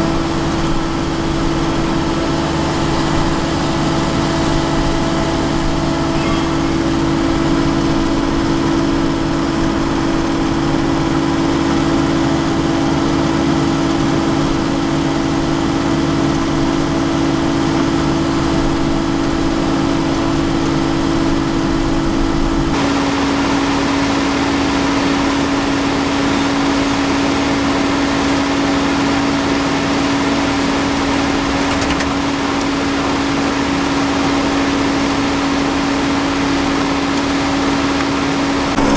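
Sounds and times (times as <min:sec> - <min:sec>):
road-paving machinery engines humming: 0:00.0 - 0:38.9.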